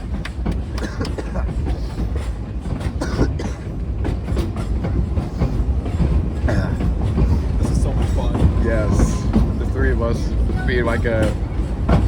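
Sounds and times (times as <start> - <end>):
train car rumbling on track: 0.0 - 12.0.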